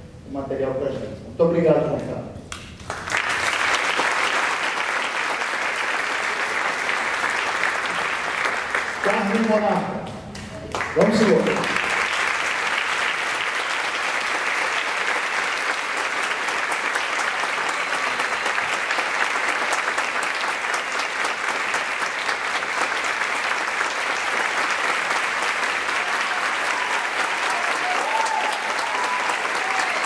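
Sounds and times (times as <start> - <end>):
audience applauding: 2.8 - 30.0.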